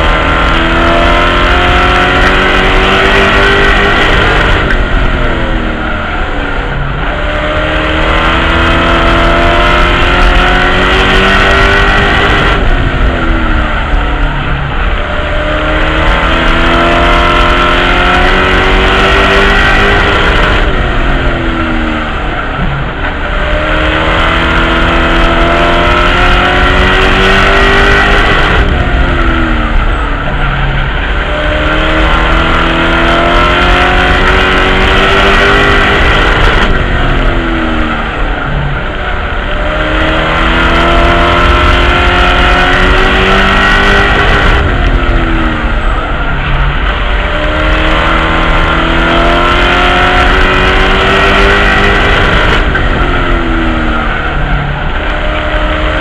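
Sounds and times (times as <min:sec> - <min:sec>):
race truck engine revving: 0:00.0 - 0:56.0
road and wind noise: 0:00.0 - 0:56.0.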